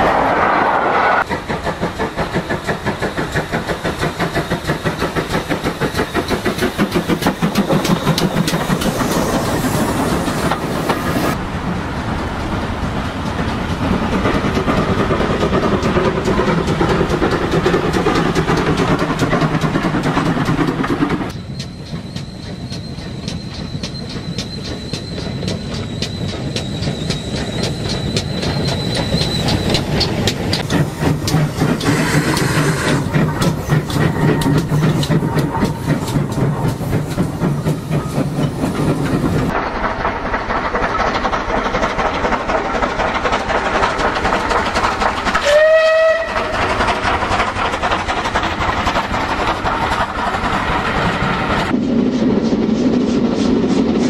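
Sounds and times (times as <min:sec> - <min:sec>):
steam locomotive exhaust beats: 0:01.2 - 0:54.0
wheels clattering over rail joints: 0:01.2 - 0:54.0.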